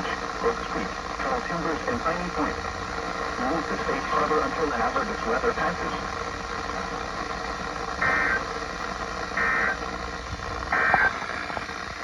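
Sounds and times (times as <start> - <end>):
buzzy digital data tones: 0.0 - 12.0
radio hiss: 0.0 - 12.0.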